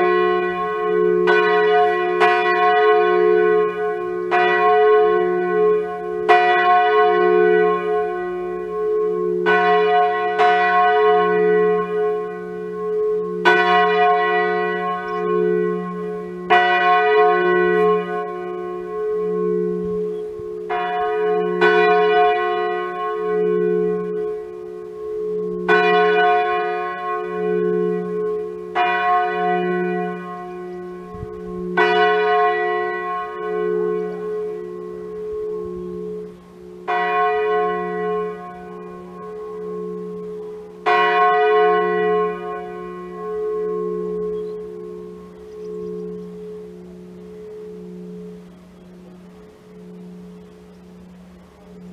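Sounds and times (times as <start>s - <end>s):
large church bell ringing: 0.0s - 51.9s.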